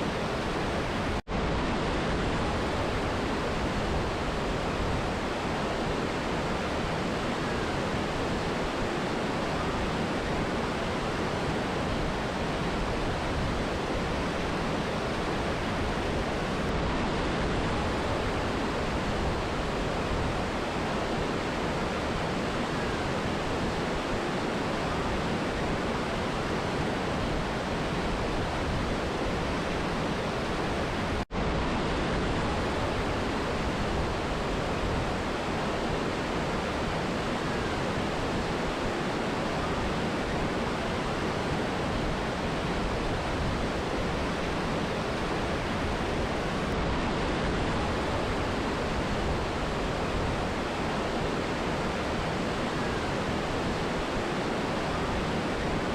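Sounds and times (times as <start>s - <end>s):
river and waterfall roaring: 0.0s - 55.9s.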